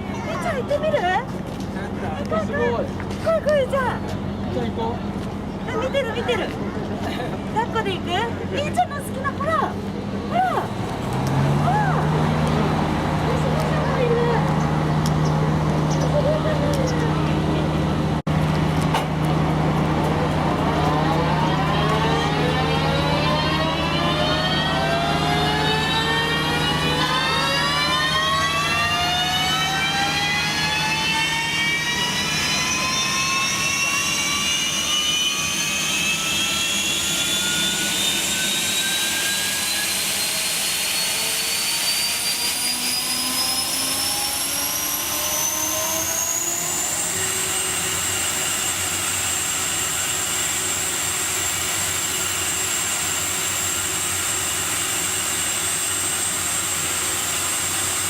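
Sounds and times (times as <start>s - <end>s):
gas turbine whine: 0.0s - 58.0s.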